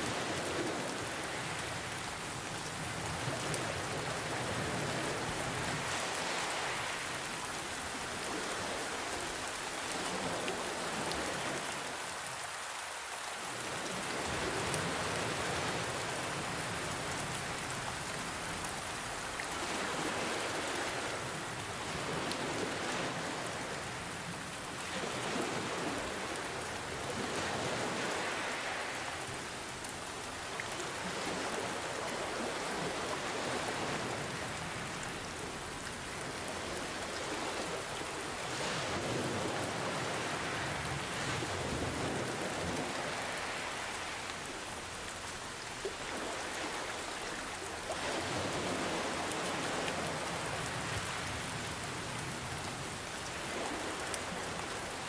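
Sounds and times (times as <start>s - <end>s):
gentle ocean waves: 0.0s - 55.0s
rain falling: 0.0s - 55.0s.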